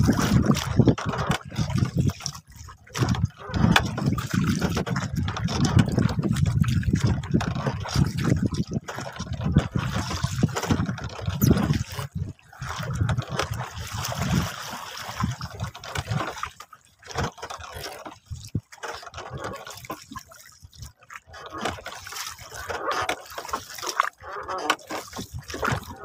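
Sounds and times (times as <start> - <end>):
water lapping against boat hull: 0.0 - 26.0.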